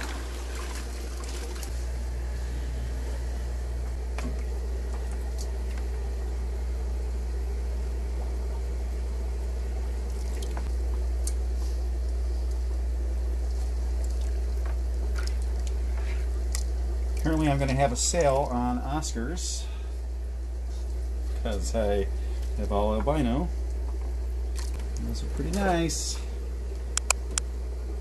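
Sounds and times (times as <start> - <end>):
aquarium equipment humming: 0.0 - 28.0.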